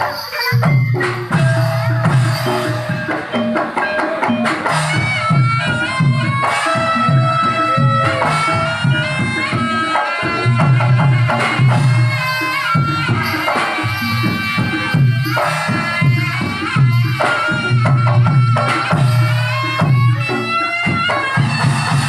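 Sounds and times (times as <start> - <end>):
drums beating steady rhythm: 0.0 - 22.0
high reedy melody: 0.0 - 22.0.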